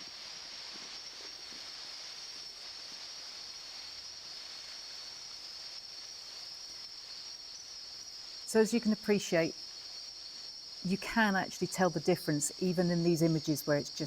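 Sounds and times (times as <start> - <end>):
faint hiss: 0.0 - 14.0
night insects chorus: 0.0 - 14.0.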